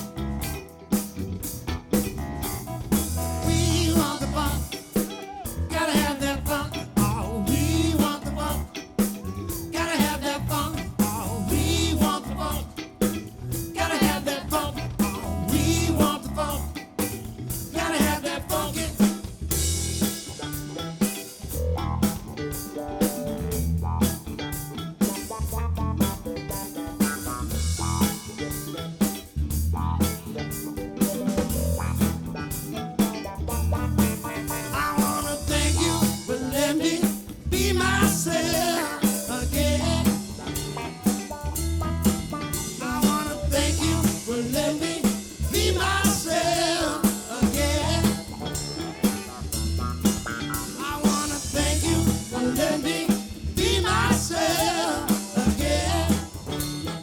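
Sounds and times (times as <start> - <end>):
live funk band playing: 0.0 - 57.0.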